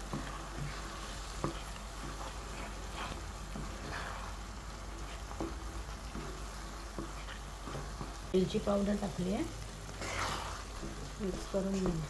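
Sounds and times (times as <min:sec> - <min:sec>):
soft steady sizzle: 0:00.0 - 0:12.0
wooden spatula stirring porridge: 0:00.0 - 0:12.0.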